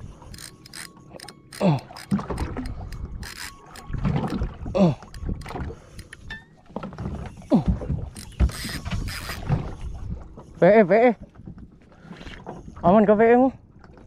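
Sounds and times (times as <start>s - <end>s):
water slapping against hull: 1.2s - 13.1s.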